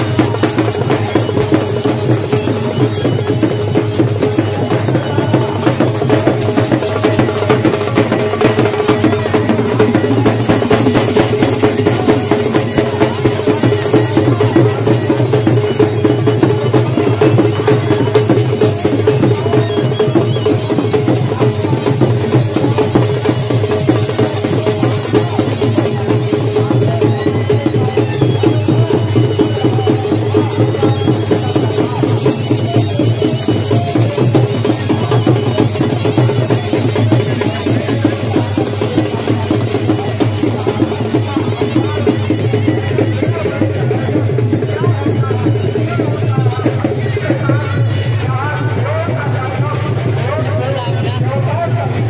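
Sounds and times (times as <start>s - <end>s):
folk drums beating fast rhythm: 0.0s - 52.0s.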